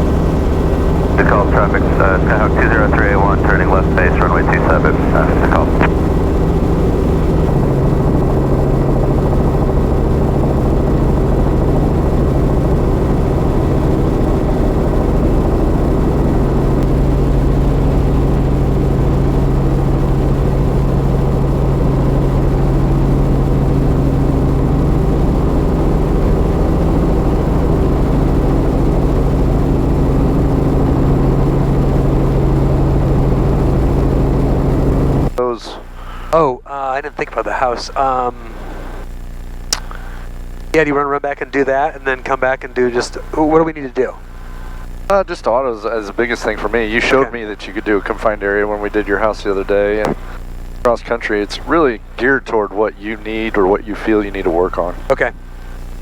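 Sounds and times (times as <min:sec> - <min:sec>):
helicopter engine and rotor drone: 0:00.0 - 0:56.0.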